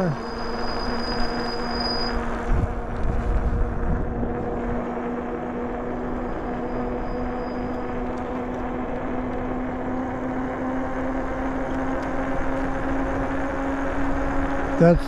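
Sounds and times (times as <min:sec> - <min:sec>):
electric bike motor hum: 0:00.0 - 0:15.0
wind and road noise: 0:00.0 - 0:15.0.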